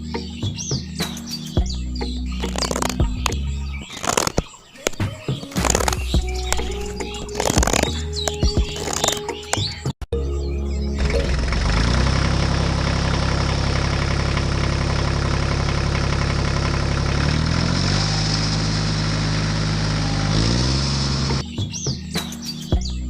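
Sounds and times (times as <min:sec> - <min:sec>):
engine humming: 0:00.0 - 0:21.4.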